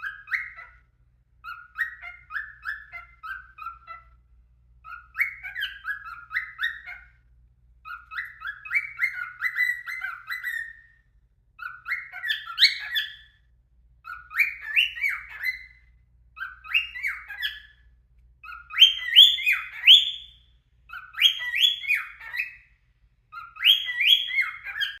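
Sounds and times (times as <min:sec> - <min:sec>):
cockatiel whistling: 0:00.0 - 0:04.2, 0:04.8 - 0:07.2, 0:07.8 - 0:13.4, 0:14.0 - 0:25.0.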